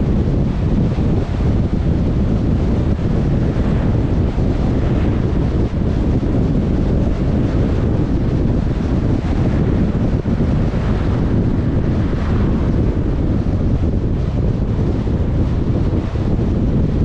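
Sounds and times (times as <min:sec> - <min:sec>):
car road and wind noise: 0:00.0 - 0:17.0
wind buffeting microphone: 0:00.0 - 0:17.0.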